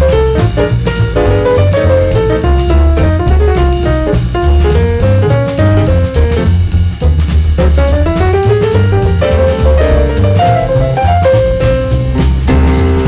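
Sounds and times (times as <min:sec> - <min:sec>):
upbeat jazz music: 0:00.0 - 0:13.0.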